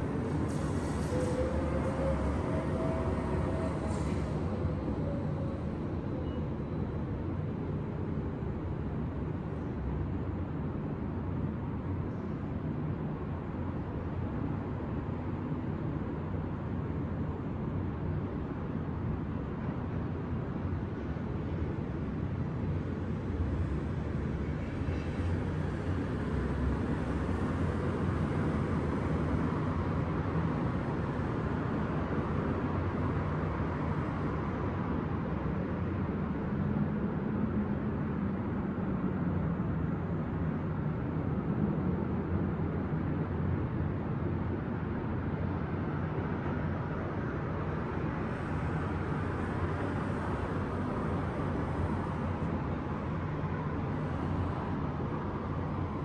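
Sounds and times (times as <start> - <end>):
city traffic noise: 0.0 - 56.0.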